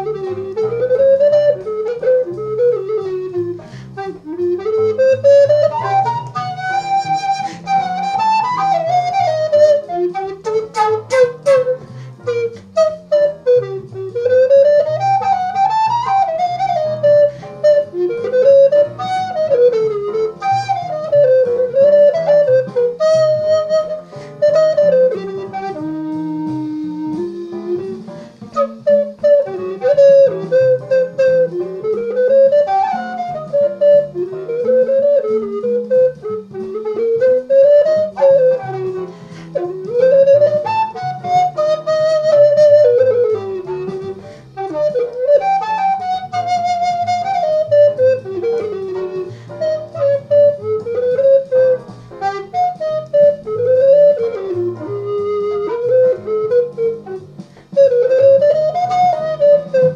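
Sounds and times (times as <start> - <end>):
backing track with guitar: 0.0 - 59.9
recorder playing jazz melody: 0.0 - 59.9.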